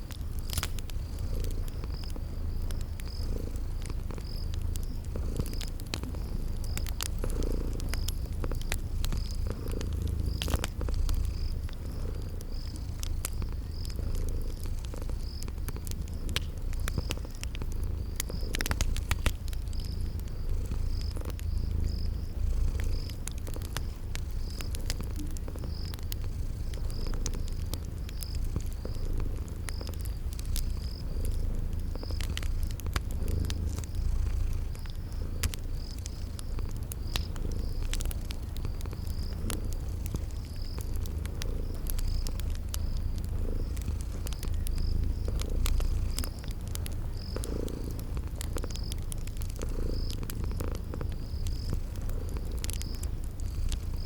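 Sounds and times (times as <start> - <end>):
cat purring: 0.0 - 54.0
cricket chirping: 0.0 - 54.0
wood fire crackling: 0.0 - 54.0.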